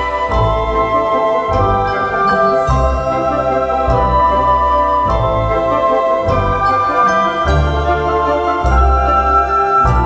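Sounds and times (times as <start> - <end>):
gentle music with chimes: 0.0 - 10.0.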